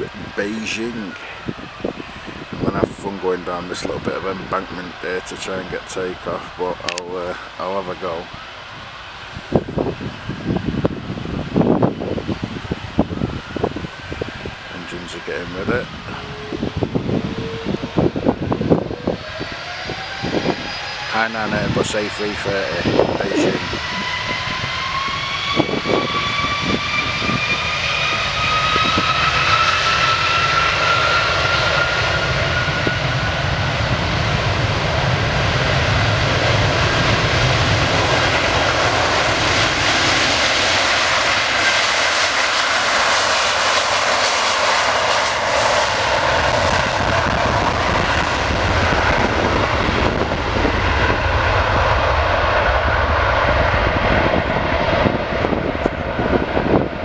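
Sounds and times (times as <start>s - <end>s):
jet engine roar: 0.0s - 57.0s
jet engines whining: 0.0s - 57.0s.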